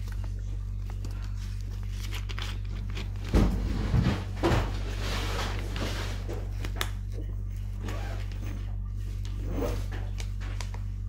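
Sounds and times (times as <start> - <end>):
bumps and rustles of paper: 0.0 - 11.0
steady low hum: 0.0 - 11.0.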